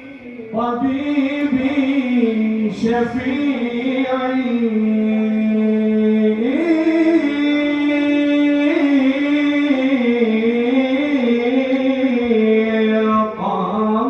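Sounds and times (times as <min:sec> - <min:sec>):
man singing melismatic notes: 0:00.0 - 0:14.0.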